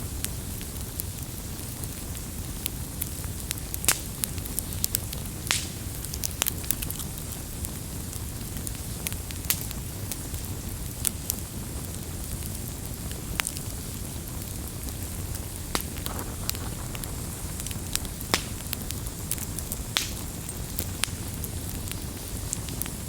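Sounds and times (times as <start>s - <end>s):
fire crackles and pops: 0.0s - 23.0s
low rumble of fire: 0.0s - 23.0s.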